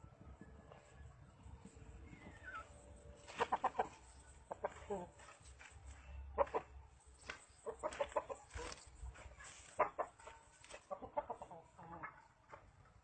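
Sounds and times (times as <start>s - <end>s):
chicken clucking: 0.7s - 13.0s.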